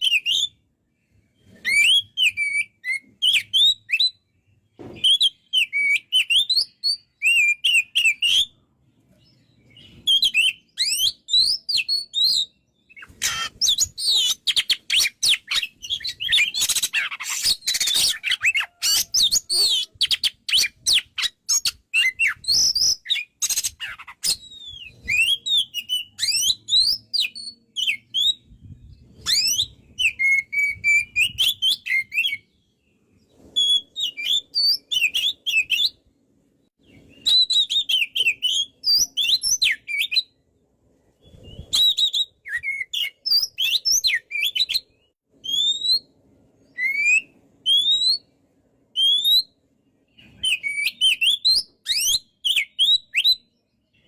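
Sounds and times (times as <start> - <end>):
bird whistling and chirping: 0.0 - 4.3, 4.9 - 8.6, 9.2 - 36.0, 36.8 - 40.4, 41.2 - 48.3, 49.0 - 54.0.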